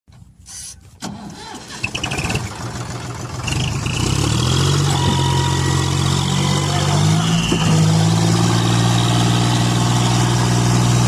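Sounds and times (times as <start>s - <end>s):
tractor engine starting up: 0.5s - 11.0s.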